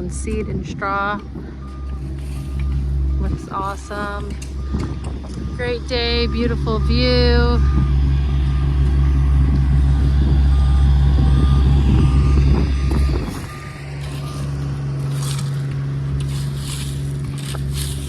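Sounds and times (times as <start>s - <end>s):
backup alarm beeping: 0.0s - 16.1s
diesel engine running: 0.0s - 18.0s.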